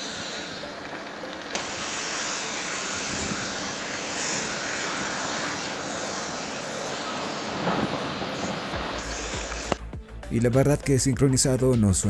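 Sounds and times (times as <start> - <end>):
dense rushing noise: 0.0 - 9.8.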